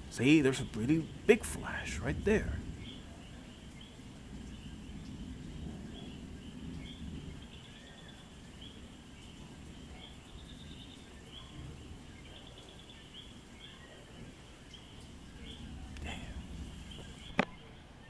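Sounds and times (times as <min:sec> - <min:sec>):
frogs and insects chirping: 0:00.0 - 0:17.5
distant thunder rumble: 0:00.0 - 0:17.6.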